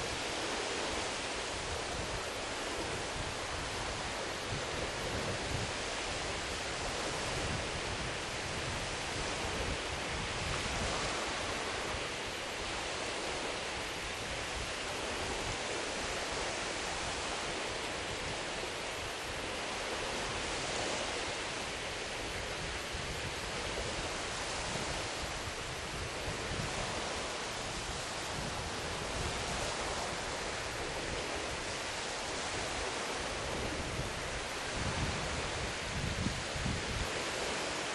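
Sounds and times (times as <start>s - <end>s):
sea waves washing: 0.0s - 37.9s
wind: 0.0s - 37.9s
wind gusts rumbling on microphone: 0.0s - 37.9s.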